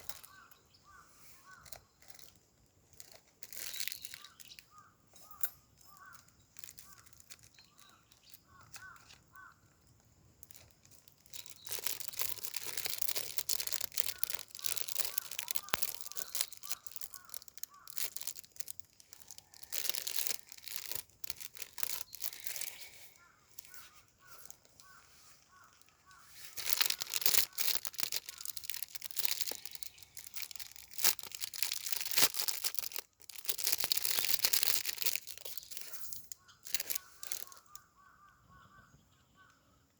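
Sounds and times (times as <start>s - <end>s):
rasping crinkling noise: 0.0s - 38.4s.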